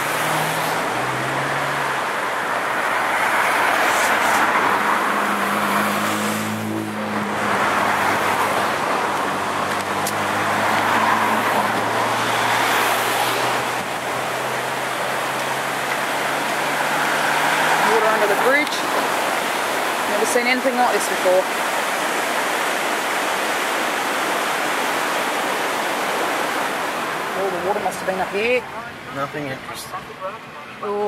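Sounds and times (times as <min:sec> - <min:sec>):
cars passing on wet road: 0:00.0 - 0:31.0
rushing floodwater: 0:00.0 - 0:31.0.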